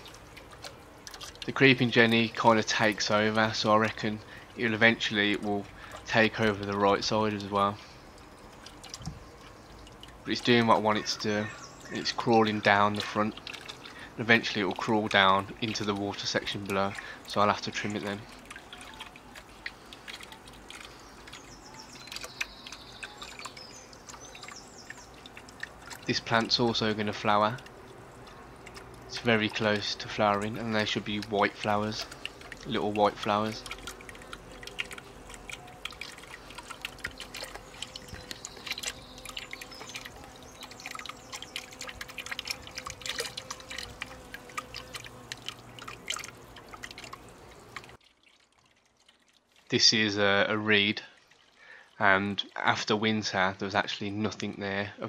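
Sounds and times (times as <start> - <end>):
water pouring into pond: 0.0 - 53.6
water dripping: 0.0 - 54.6.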